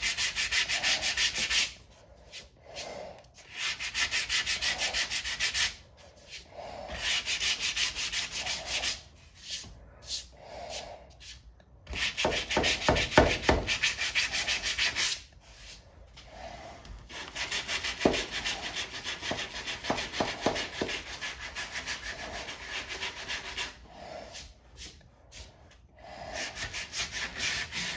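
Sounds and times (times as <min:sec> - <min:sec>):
sanding block scraping filler: 0:00.0 - 0:02.5, 0:03.4 - 0:15.8, 0:17.1 - 0:27.9.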